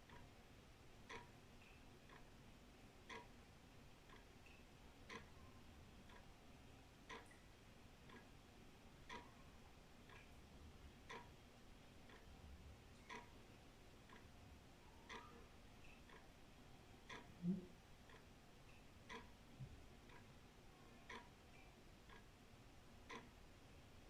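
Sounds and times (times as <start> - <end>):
wall clock ticking: 0.0 - 0.4, 1.0 - 2.4, 3.0 - 23.6.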